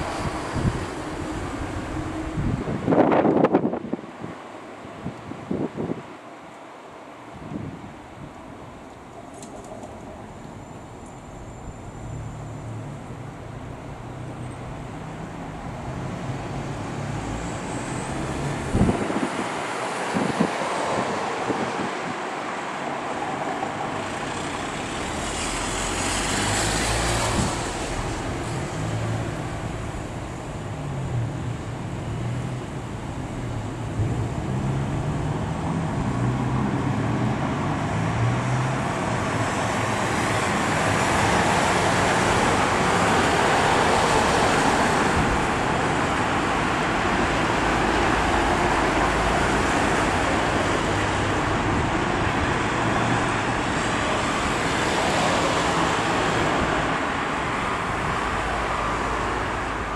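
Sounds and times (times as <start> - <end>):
road traffic rushing: 0.0 - 59.9.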